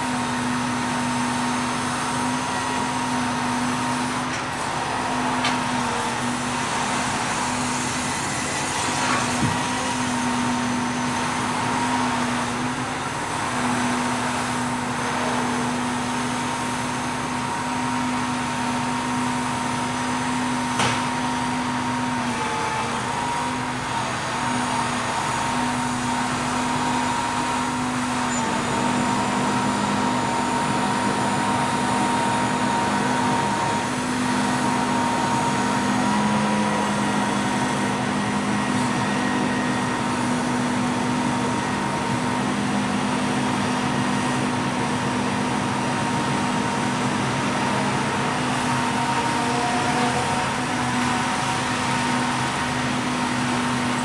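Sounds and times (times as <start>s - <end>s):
hydraulic crane whine: 0.0s - 54.0s.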